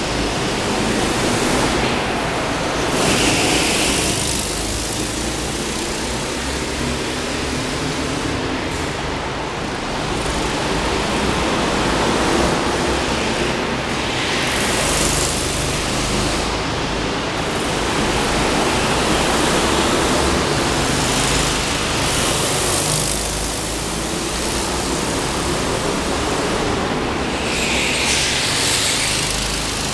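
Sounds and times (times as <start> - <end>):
go-kart engines droning: 0.0 - 29.9.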